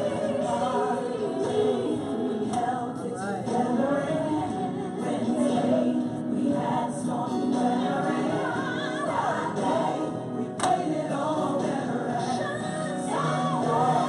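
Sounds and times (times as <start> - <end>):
gospel choir singing over music: 0.0 - 14.0.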